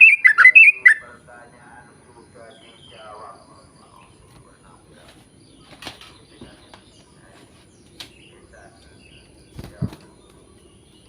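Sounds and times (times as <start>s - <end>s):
steady high-pitched hiss: 0.1s - 11.0s.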